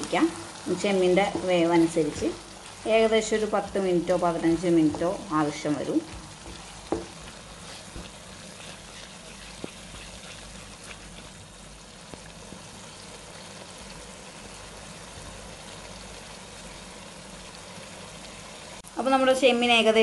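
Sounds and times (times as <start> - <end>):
curry simmering and sizzling: 0.0 - 20.0.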